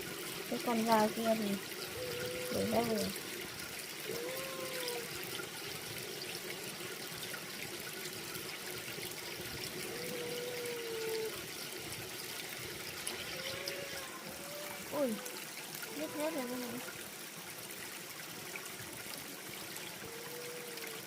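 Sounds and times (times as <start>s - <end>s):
water running and trickling: 0.0s - 21.0s.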